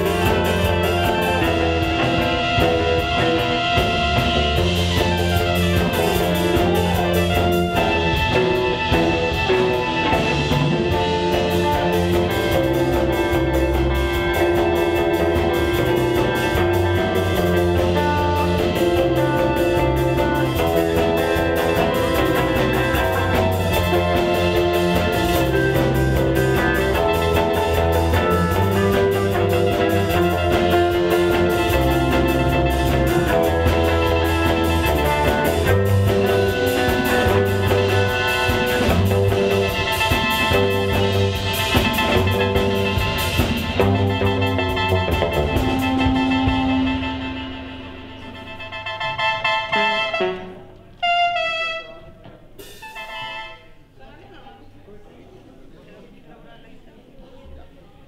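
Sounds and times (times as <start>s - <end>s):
electric guitar: 0.0s - 52.7s
drum kit: 0.0s - 53.9s
keyboard: 0.0s - 54.0s.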